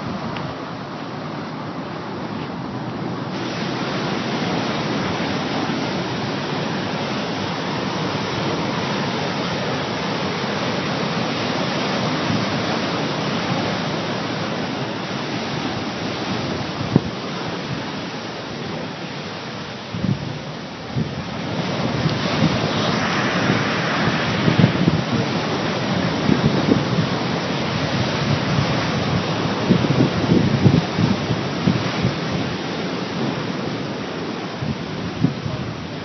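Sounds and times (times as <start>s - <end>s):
surf breaking on rocks: 2.7s - 36.0s.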